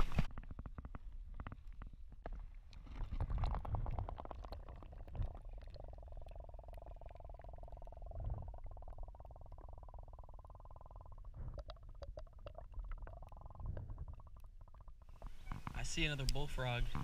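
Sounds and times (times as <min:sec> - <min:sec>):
underwater rumbling and sloshing: 0:00.0 - 0:17.0.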